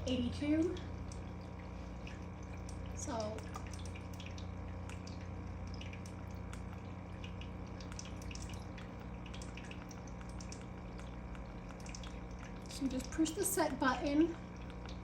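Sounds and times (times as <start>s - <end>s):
aquarium low hum: 0.0s - 15.0s
water trickling and dripping: 0.0s - 15.0s.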